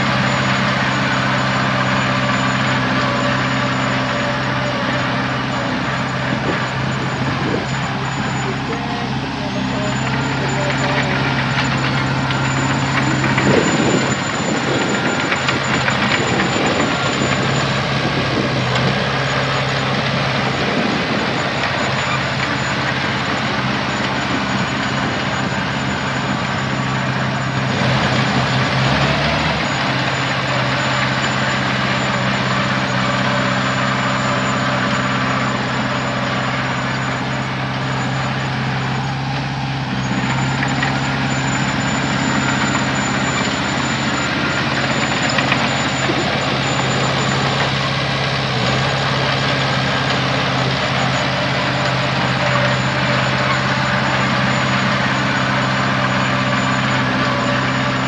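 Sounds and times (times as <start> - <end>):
diesel earthmoving machinery running: 0.0 - 58.0.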